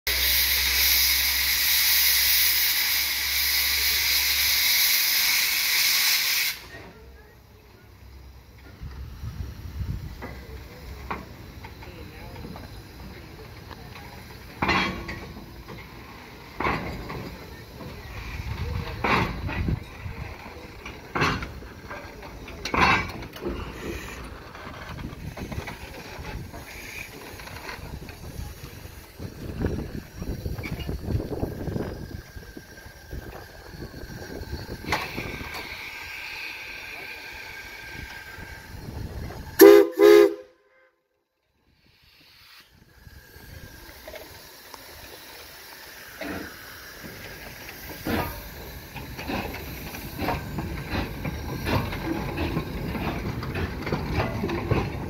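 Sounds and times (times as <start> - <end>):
steam hissing: 0.1 - 40.5, 41.6 - 55.0.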